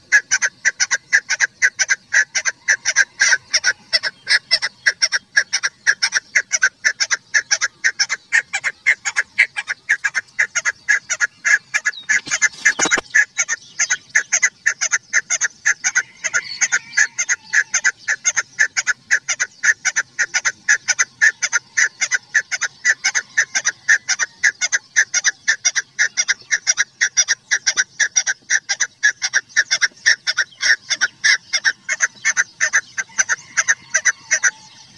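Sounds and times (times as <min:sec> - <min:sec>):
partridge clucking calls: 0:00.0 - 0:34.9.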